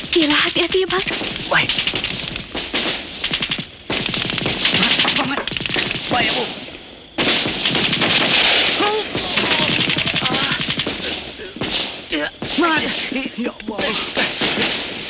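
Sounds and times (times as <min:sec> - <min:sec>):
rapid automatic gunfire: 0:00.0 - 0:06.6, 0:07.2 - 0:13.2, 0:13.9 - 0:15.0.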